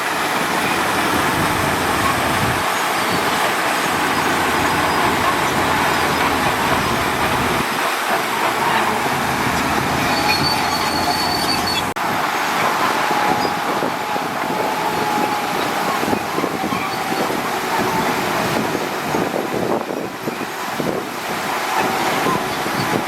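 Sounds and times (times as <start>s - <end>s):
bulldozer engine: 0.0s - 23.0s
steel tracks clanking and squealing: 0.0s - 23.0s.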